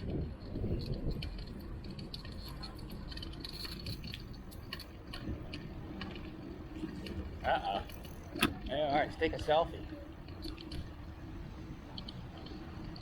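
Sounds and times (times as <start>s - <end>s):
bicycle tyres rumbling on road: 0.0s - 13.0s
bike clicks and rattles: 0.0s - 13.0s.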